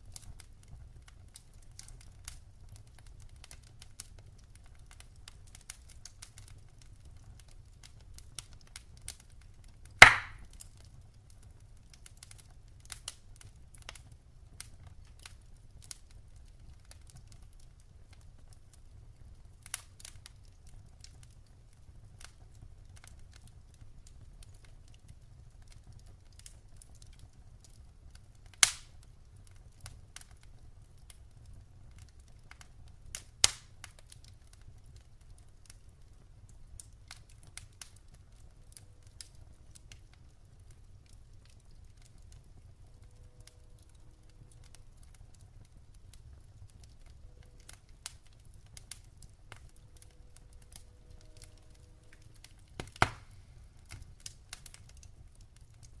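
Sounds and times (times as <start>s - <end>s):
firewood crackling and popping: 0.0s - 56.0s
low fire rumble: 0.0s - 56.0s.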